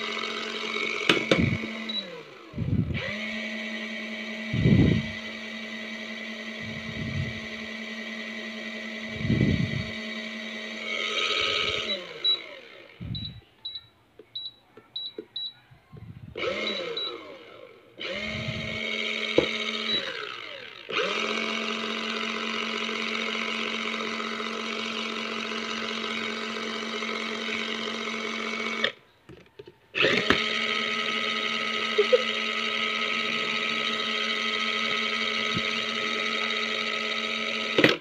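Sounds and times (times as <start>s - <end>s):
small washing machine motor humming: 0.0s - 13.8s, 16.3s - 29.0s, 29.9s - 38.0s.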